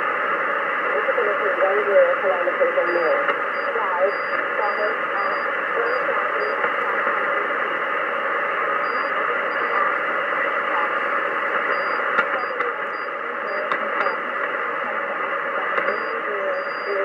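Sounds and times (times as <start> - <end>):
shortwave radio hiss: 0.0 - 17.0.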